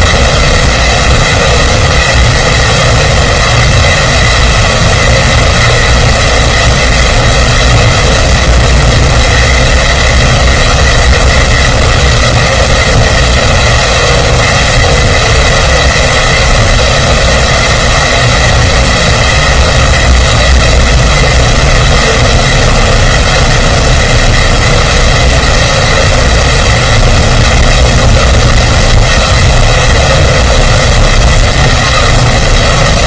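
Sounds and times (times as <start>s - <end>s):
mechanical drone with low rumble: 0.0s - 33.0s.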